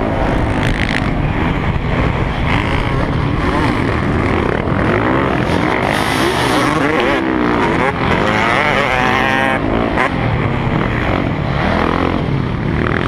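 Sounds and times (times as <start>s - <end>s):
dirt bike engine revving: 0.0s - 13.0s
wind and dirt rush: 0.0s - 13.0s.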